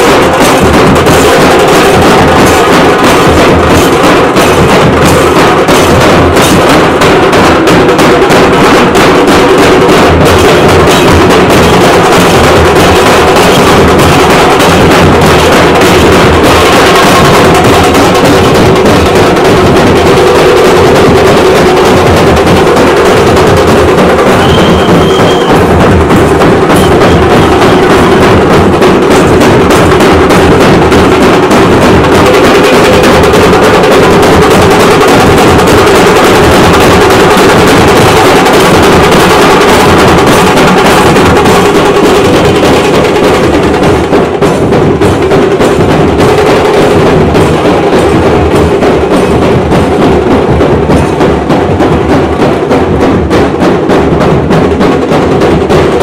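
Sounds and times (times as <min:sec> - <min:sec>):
barrel drums beaten with sticks: 0:00.0 - 0:56.0.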